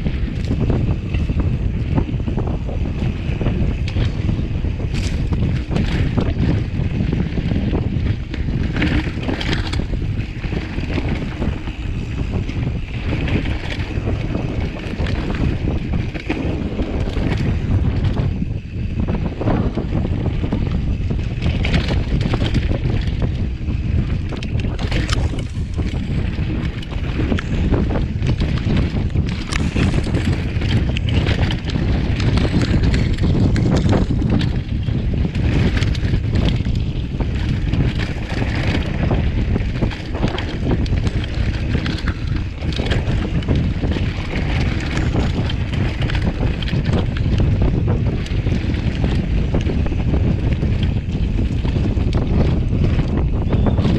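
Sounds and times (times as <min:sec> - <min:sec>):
bike rattles and knocks: 0:00.0 - 0:53.9
wind buffeting microphone: 0:00.0 - 0:53.9
tyres rolling over dirt: 0:03.6 - 0:18.4, 0:19.6 - 0:53.9.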